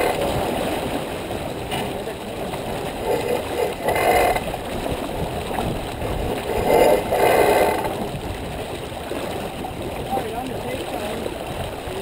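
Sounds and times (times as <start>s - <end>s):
water rushing along hull: 0.0s - 12.0s
wind noise: 0.0s - 12.0s.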